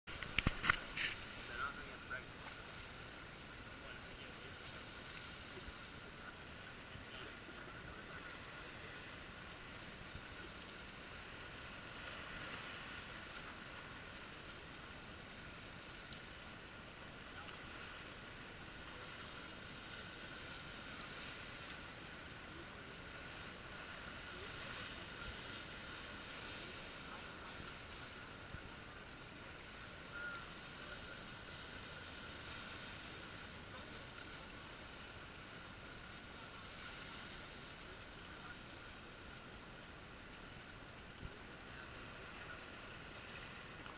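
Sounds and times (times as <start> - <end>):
surf splashing among concrete blocks: 0.1 - 43.9.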